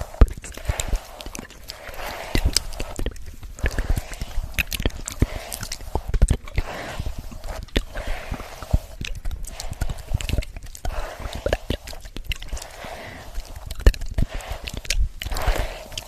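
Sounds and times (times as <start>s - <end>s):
hairbrush swishing through hair: 0.0s - 16.0s.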